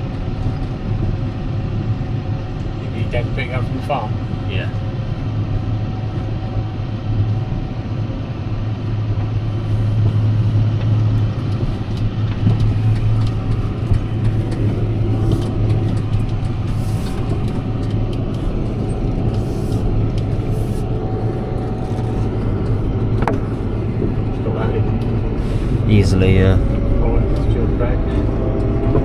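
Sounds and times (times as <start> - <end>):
tractor engine humming: 0.0 - 29.0.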